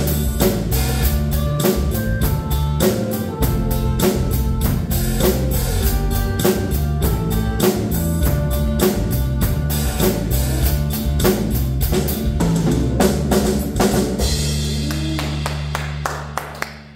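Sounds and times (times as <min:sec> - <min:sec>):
drum kit playing a steady beat: 0:00.0 - 0:16.9.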